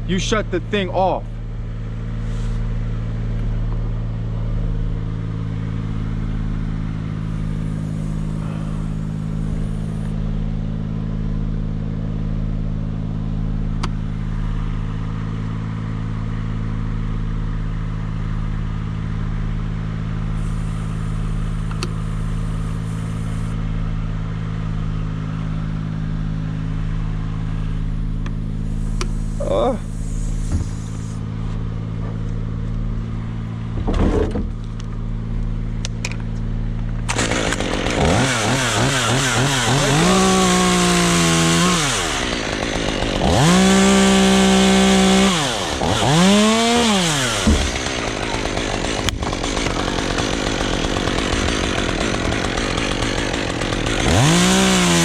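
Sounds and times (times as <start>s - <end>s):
engine droning steadily: 0.0s - 55.0s.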